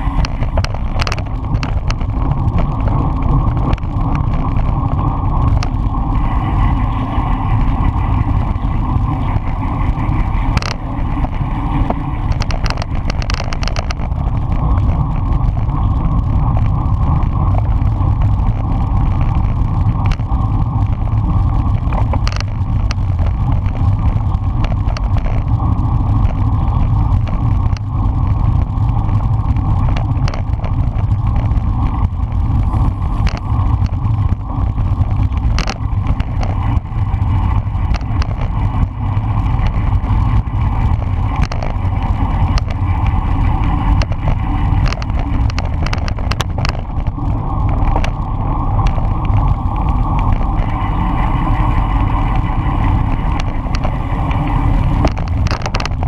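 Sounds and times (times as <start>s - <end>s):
sharp clicks and ticks: 0.0s - 56.0s
wind buffeting microphone: 0.0s - 56.0s.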